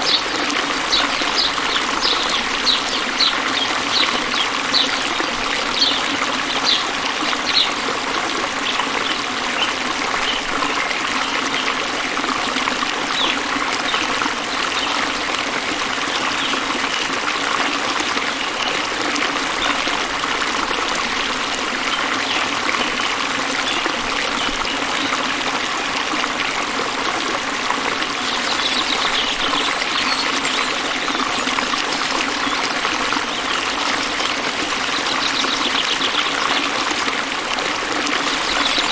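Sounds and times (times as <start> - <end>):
stream trickling and splashing: 0.0 - 38.9.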